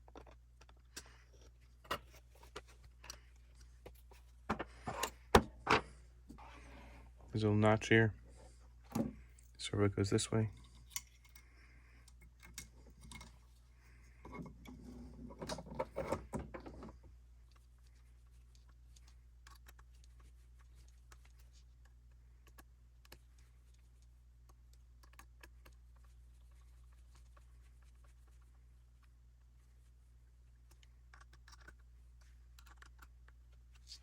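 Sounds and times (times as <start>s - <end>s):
parts clicking and rattling: 0.0s - 6.4s, 8.8s - 29.1s, 30.4s - 34.0s.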